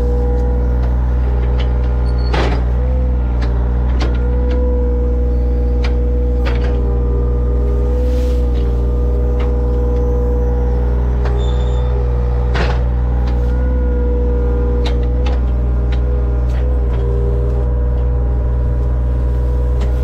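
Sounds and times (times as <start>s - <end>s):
heavy equipment engine running: 0.0s - 20.0s.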